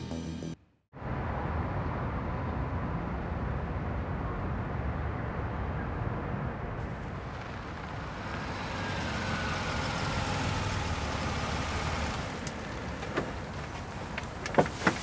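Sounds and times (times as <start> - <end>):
road traffic rumble: 0.9 - 15.0
car whine: 1.0 - 15.0.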